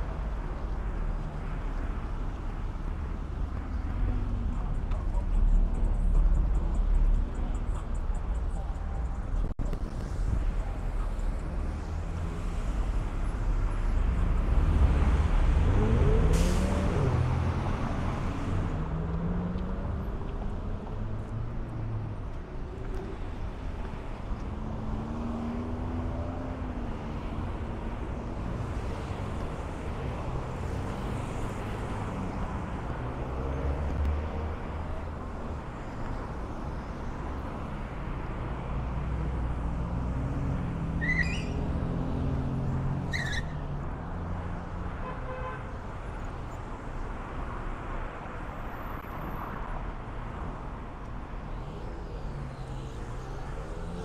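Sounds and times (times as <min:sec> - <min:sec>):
vehicles driving past: 0:00.0 - 0:54.0.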